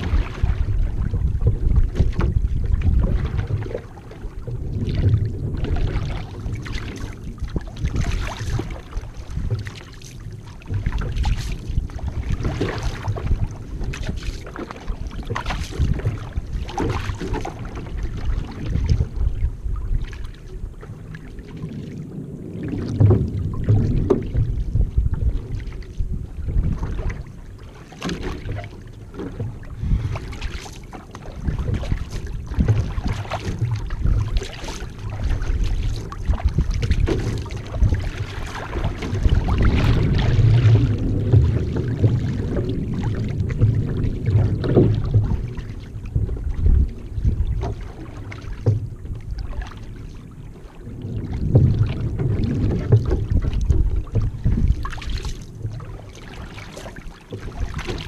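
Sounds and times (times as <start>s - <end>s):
paddle strokes splashing: 0.0s - 58.0s
water washing along hull: 0.0s - 58.0s
wind buffeting microphone: 0.0s - 58.0s.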